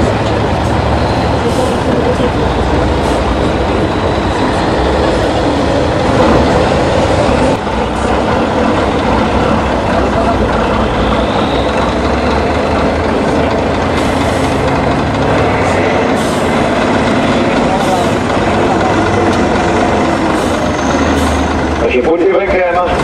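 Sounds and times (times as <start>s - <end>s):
truck diesel engine running hard: 0.0s - 23.0s.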